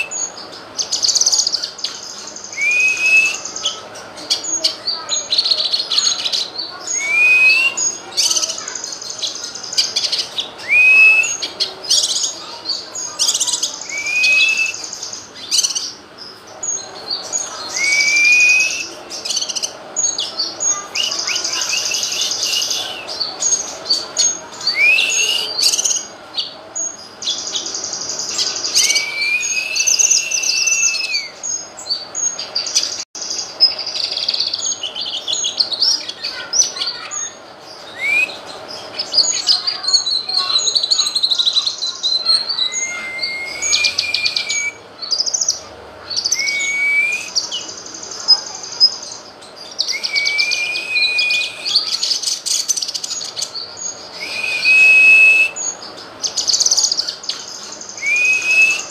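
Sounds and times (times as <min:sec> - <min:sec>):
bird whistling song: 0:00.0 - 0:03.8, 0:04.4 - 0:16.0, 0:16.7 - 0:27.7, 0:28.3 - 0:32.9, 0:33.6 - 0:58.9
bird high chattering: 0:00.0 - 0:58.9.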